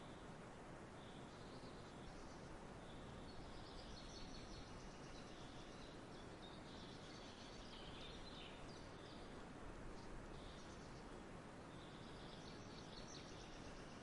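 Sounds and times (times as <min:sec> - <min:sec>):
low background hiss: 0:00.0 - 0:14.0
small birds chirping: 0:00.9 - 0:14.0.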